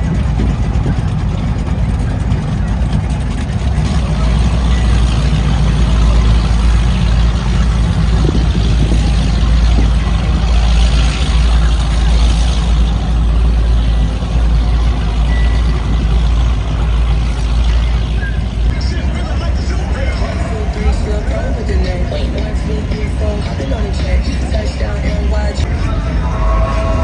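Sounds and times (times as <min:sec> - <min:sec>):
large engines rumbling: 0:00.0 - 0:27.0.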